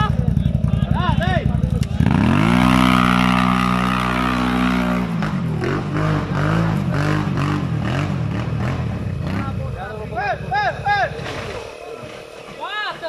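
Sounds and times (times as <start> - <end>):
quad bike engine revving: 0.0 - 11.8.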